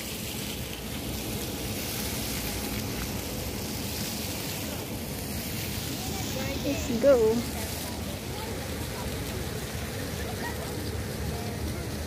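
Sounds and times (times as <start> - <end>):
fountain jets splashing into pool: 0.0 - 12.0.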